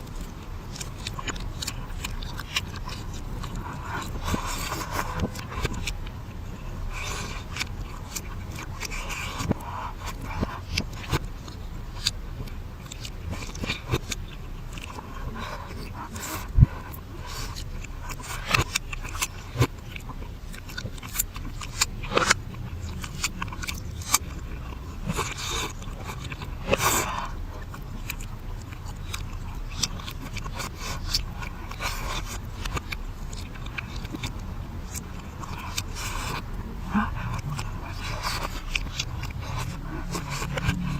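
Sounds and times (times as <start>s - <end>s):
low steady hum: 0.0s - 40.9s
reversed crunchy chewing: 0.0s - 40.9s.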